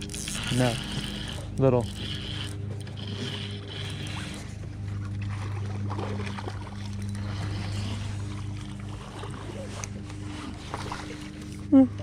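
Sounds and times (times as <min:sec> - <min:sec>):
electric trolling motor humming: 0:00.0 - 0:12.0.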